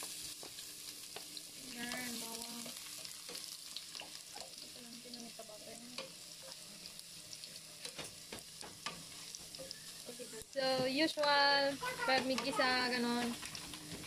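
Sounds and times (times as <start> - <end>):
garlic sizzling in oil: 0.0 - 14.0.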